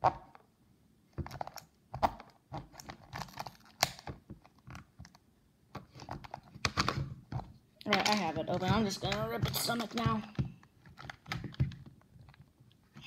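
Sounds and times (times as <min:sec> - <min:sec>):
hard plastic clicking and cracking: 0:01.2 - 0:13.0.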